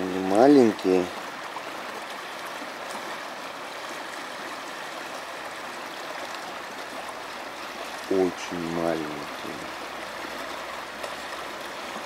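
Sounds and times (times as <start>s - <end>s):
shallow water flowing: 0.0s - 12.0s.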